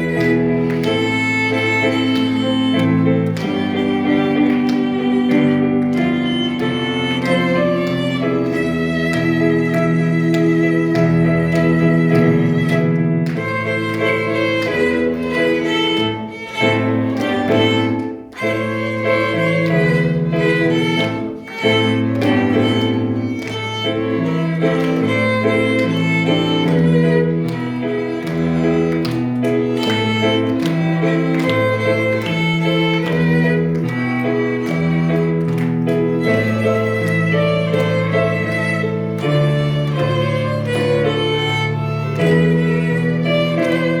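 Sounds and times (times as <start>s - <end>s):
string ensemble melody: 0.0s - 44.0s.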